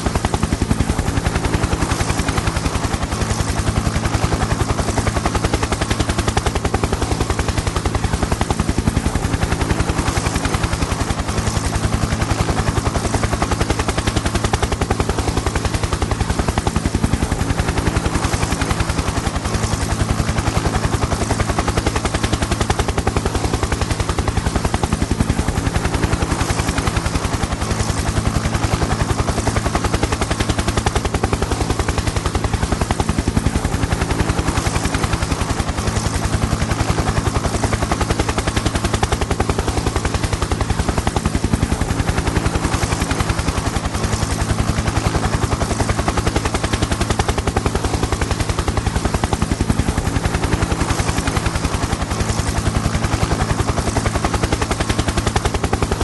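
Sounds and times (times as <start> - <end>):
helicopter rotor blades chopping: 0.0 - 56.0.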